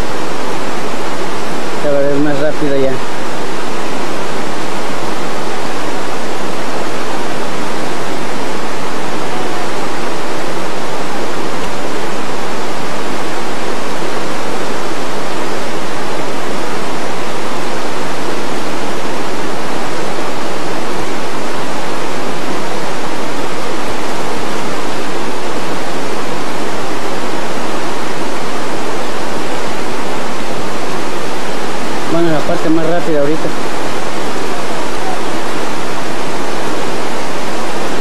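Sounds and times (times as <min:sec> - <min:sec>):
rushing river water: 0:00.0 - 0:38.0.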